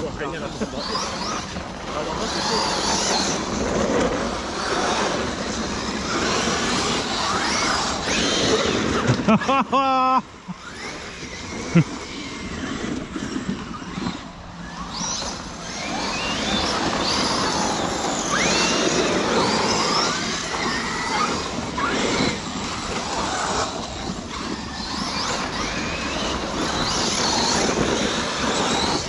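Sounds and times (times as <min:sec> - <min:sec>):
electric motors whining: 0:00.0 - 0:29.0
steady rushing noise: 0:00.0 - 0:29.0.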